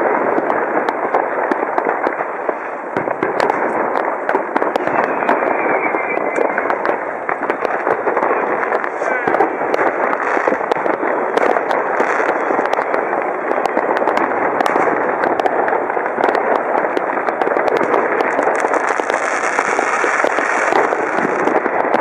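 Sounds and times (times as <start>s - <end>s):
fireworks bangs and cracks: 0.0s - 22.0s
fireworks crackle: 0.0s - 22.0s.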